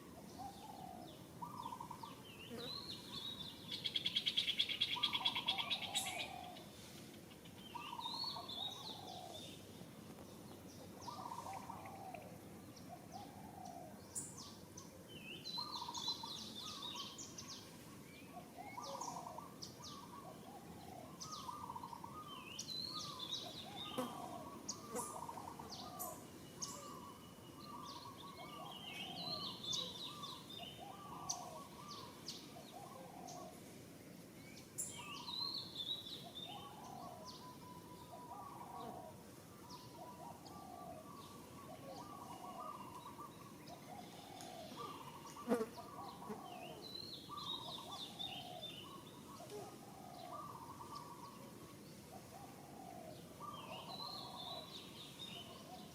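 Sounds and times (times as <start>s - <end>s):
birds chirping and twittering: 0.0s - 55.9s
faint background hiss: 0.0s - 55.9s.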